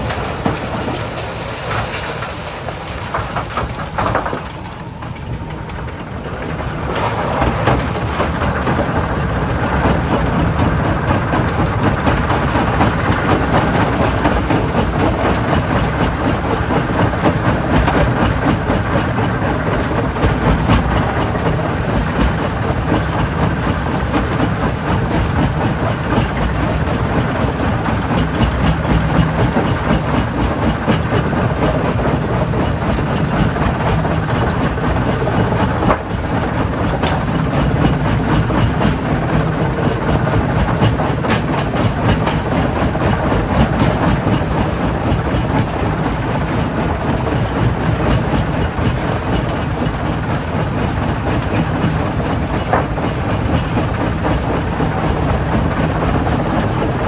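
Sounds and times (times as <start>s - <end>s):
stone crusher machinery running: 0.0s - 57.0s.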